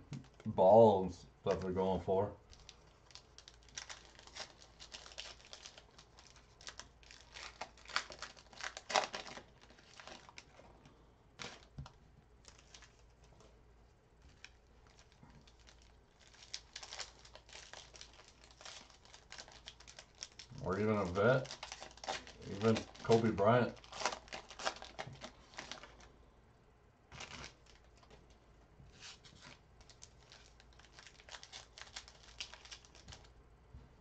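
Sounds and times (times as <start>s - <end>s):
plastic wrapping crinkling and tearing: 2.5s - 10.7s, 11.4s - 13.4s, 14.2s - 26.1s, 27.1s - 28.4s, 29.0s - 33.4s.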